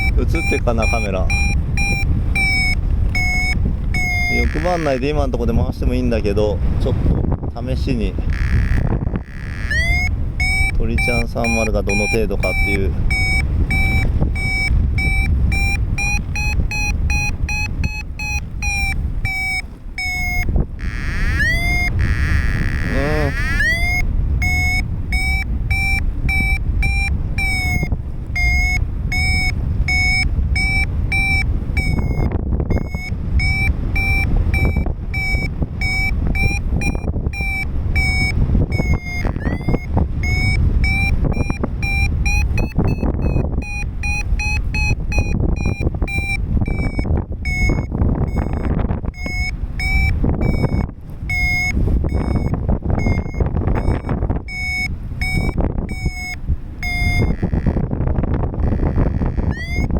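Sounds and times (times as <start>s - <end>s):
rapid electronic beeps: 0.0s - 5.2s, 8.3s - 58.0s, 58.6s - 59.9s
wind on microphone: 0.0s - 59.9s.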